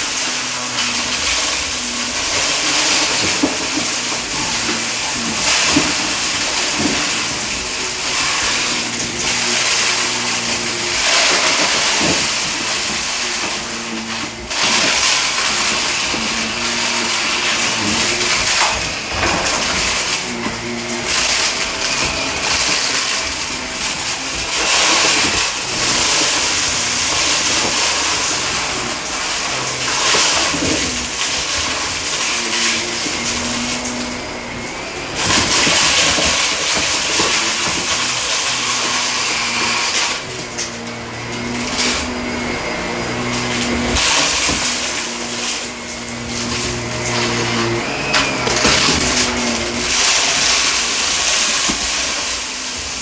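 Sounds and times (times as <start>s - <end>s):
debris being sucked up: 0.0s - 53.0s
vacuum cleaner on carpet: 0.0s - 53.0s.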